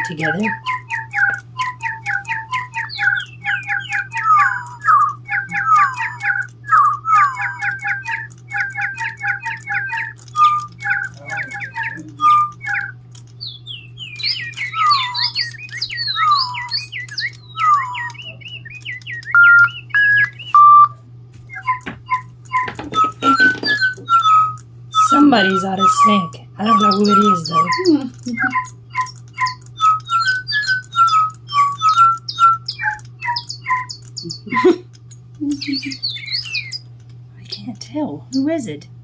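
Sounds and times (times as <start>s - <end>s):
electronic toy birds chirping: 0.0s - 38.9s
steady low hum: 0.0s - 39.0s.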